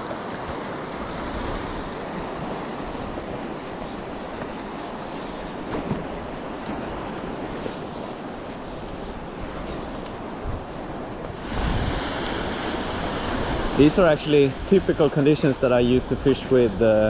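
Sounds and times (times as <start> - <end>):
small waves lapping: 0.0 - 16.8
wind buffeting microphone: 0.0 - 17.0.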